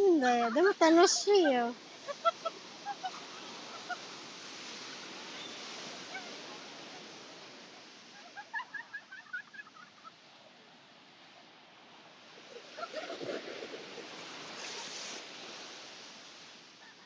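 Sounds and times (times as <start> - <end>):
surf breaking on beach: 0.2 - 10.2, 12.0 - 17.0.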